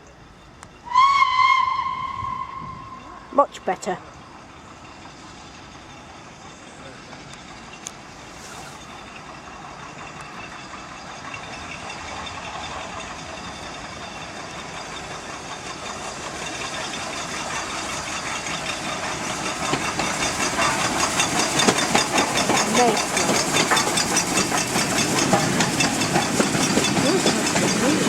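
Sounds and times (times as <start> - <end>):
steam locomotive hiss and beat: 0.2 - 28.0.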